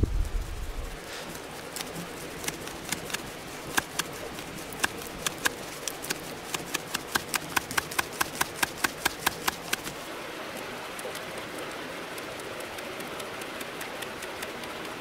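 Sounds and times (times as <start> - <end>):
campfire hiss: 0.0 - 15.0
dry leaf fanning with crisp snaps: 0.0 - 15.0.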